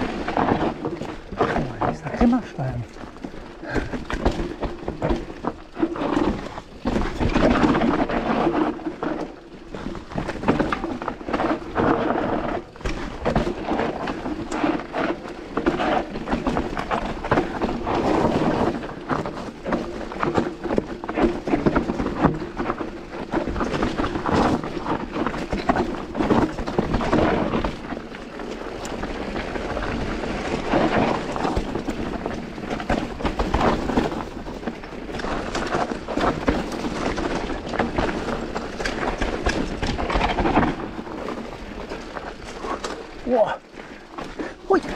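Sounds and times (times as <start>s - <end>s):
bike rattling over stones: 0.0s - 44.9s.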